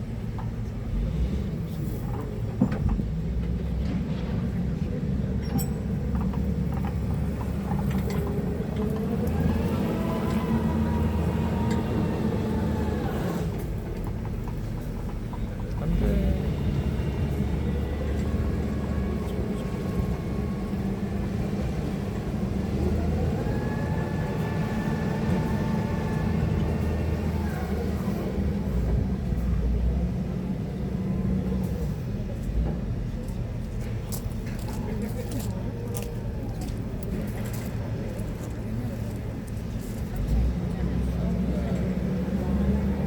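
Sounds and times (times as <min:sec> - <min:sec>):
forklift low hum: 0:00.0 - 0:43.0.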